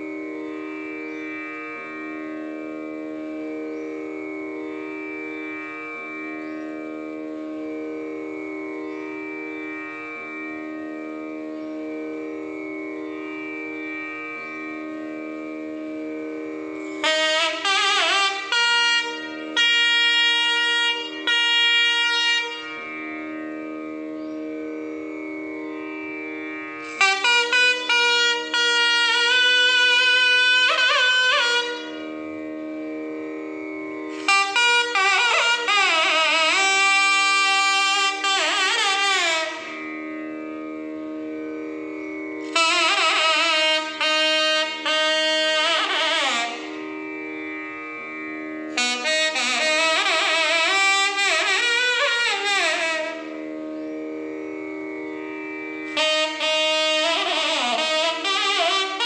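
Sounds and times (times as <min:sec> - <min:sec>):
nadaswaram melody: 0:00.0 - 0:59.0
shruti box drone: 0:00.0 - 0:59.0.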